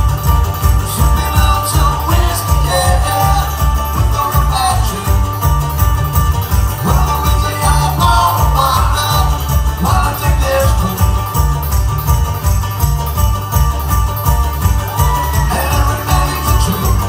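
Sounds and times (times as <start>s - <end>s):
bluegrass string band playing live: 0.0s - 17.0s
plucked cello bass line: 0.0s - 17.0s.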